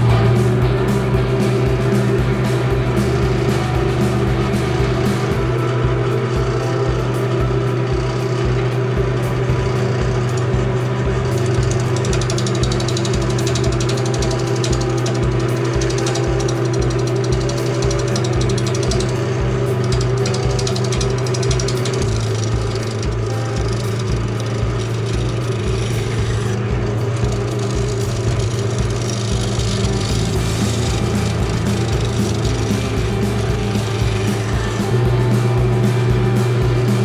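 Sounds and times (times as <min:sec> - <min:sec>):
turning tool cutting wood: 0:00.0 - 0:37.0
wood lathe motor running: 0:00.0 - 0:37.0.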